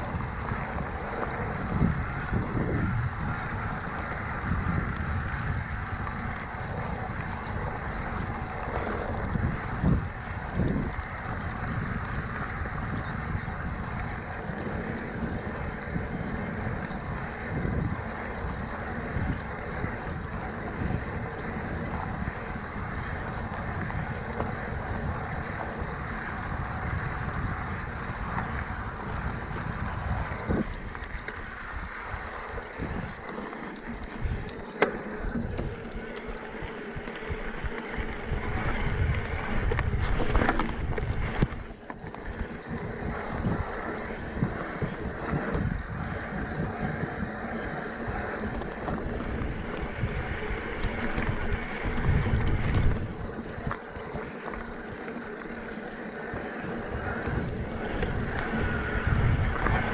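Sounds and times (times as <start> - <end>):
bike tyres crunching on gravel: 0.0 - 59.9
wind buffeting microphone: 0.0 - 59.9.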